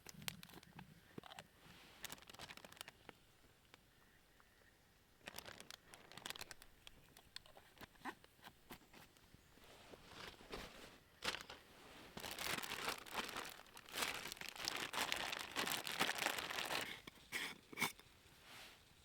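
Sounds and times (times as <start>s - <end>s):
crinkly rustling and crumpling: 0.0s - 3.9s, 5.2s - 19.0s.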